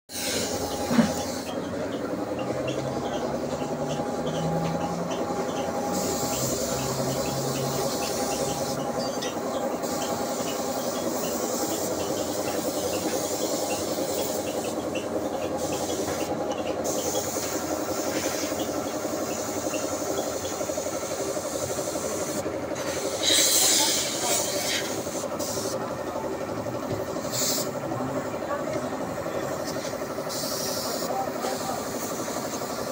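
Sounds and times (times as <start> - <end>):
paint spray gun hissing: 0.1 - 28.3, 29.0 - 32.9
air compressor humming: 0.1 - 32.9.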